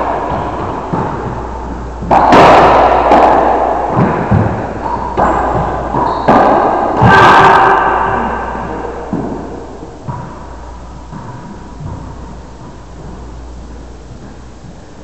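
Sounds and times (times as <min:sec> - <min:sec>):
racquetball cracking off racquets: 0:00.0 - 0:12.4.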